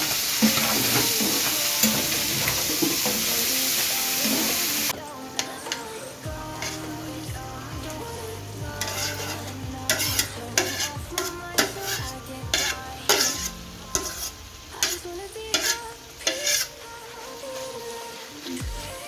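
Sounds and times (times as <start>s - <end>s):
utensil scraping a pot: 0.0s - 17.7s
food sizzling in a pot: 0.0s - 19.0s.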